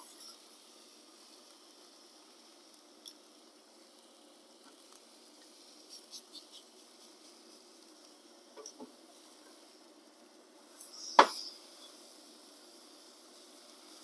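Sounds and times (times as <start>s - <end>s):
steaks sizzling in a pan: 0.0s - 14.0s.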